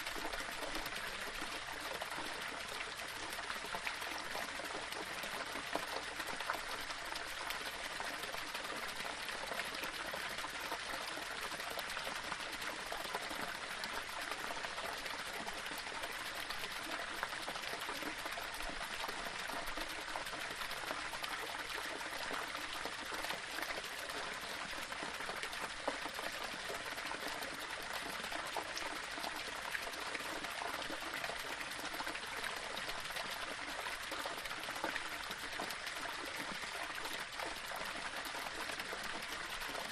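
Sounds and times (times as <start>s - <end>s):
small waterfall rushing over stones: 0.0s - 39.9s.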